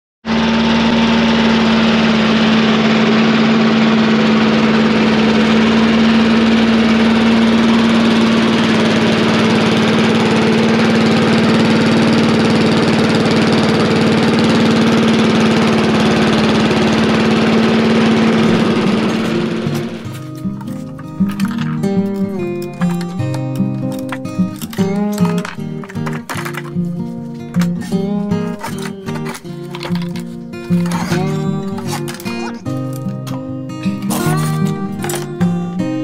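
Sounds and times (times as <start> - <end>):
lawn mower engine running: 0.2 - 36.0.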